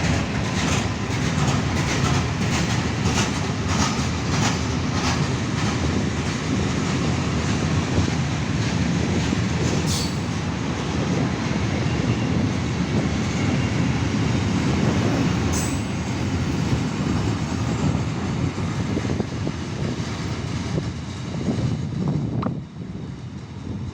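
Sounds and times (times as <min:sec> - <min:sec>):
train rumbling on rails: 0:00.0 - 0:23.9.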